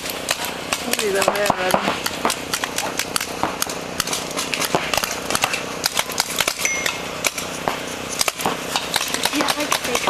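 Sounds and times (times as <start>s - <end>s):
paintball guns firing pops: 0.0s - 10.0s.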